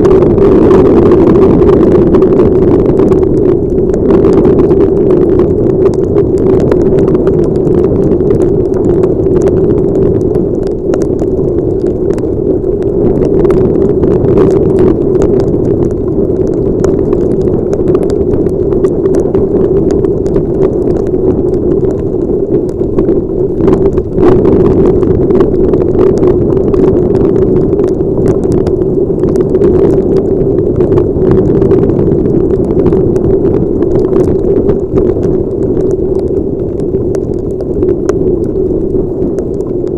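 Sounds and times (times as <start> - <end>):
raindrops ticking on camera housing: 0.0 - 39.9
wind and road noise rumble: 0.0 - 39.9.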